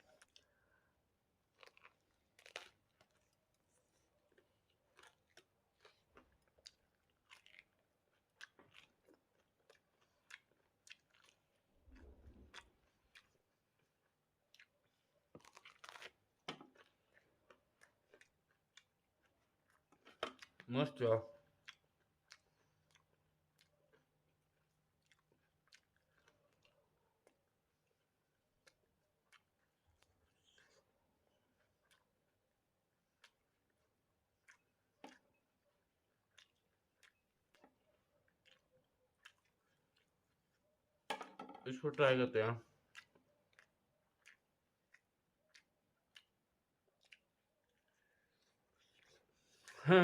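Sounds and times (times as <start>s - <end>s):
person chewing food: 0.0s - 20.7s, 21.4s - 41.2s, 42.6s - 49.9s.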